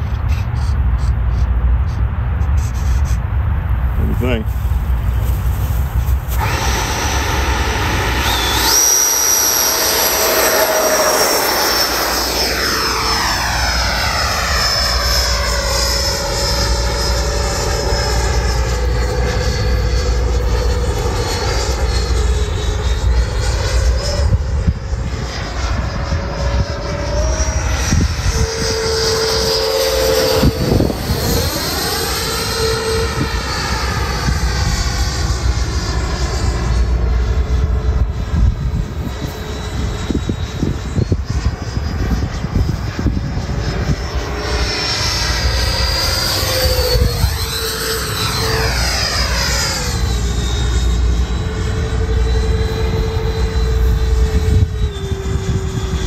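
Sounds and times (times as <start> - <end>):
electric ducted fans whining: 0.0 - 56.0.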